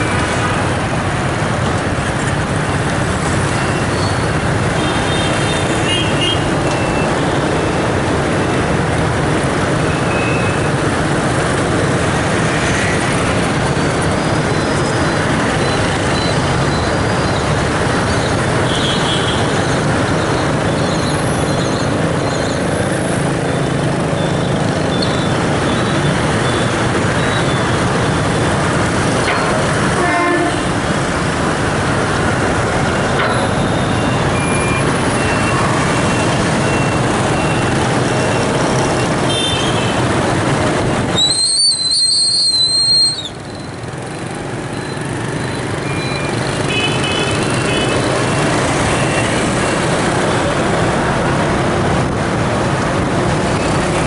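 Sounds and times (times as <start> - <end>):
loud vehicle noise: 0.0 - 54.0.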